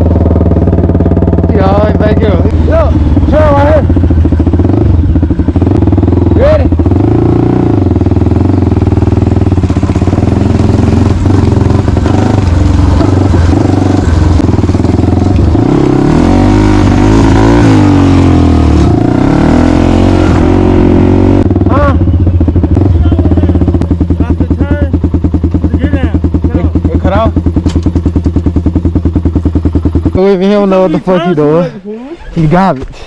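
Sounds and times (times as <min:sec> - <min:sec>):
off-road vehicle engine revving: 0:00.0 - 0:32.6.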